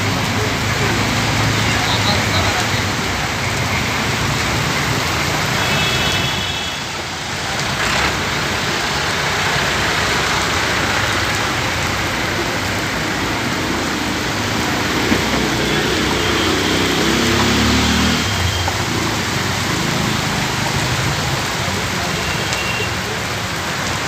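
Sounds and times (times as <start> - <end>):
heavy rain and water rushing: 0.0 - 24.0.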